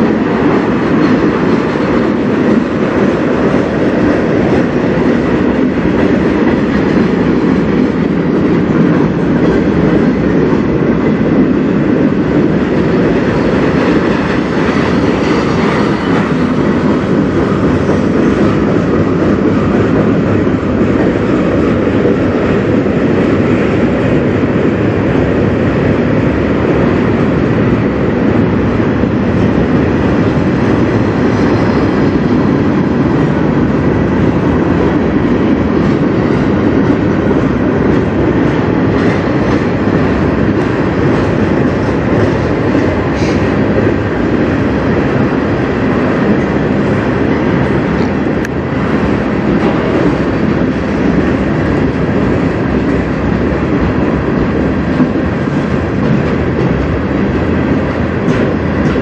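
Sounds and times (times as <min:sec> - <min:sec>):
rumble of steel wheels on rails: 0:00.0 - 0:59.0.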